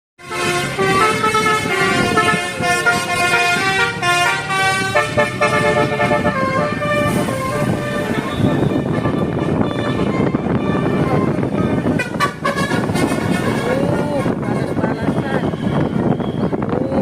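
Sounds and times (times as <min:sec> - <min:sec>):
bus horn playing a tune: 0:00.2 - 0:16.4
traffic rumble: 0:00.2 - 0:17.0.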